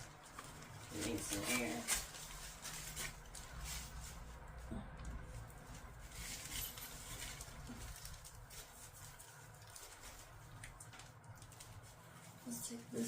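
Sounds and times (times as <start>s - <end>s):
low steady hum: 0.0s - 13.0s
rustling and light clicks: 0.0s - 13.0s.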